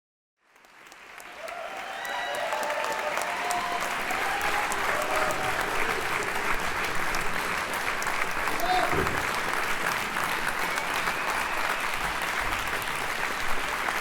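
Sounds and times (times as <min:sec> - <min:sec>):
crowd clapping: 0:00.4 - 0:14.0.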